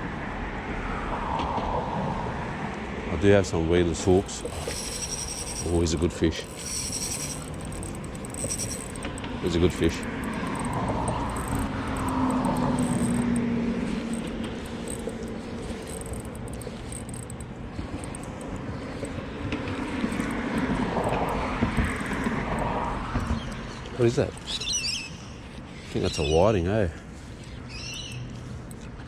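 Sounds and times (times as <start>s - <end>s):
passing traffic engines: 0.0s - 29.0s.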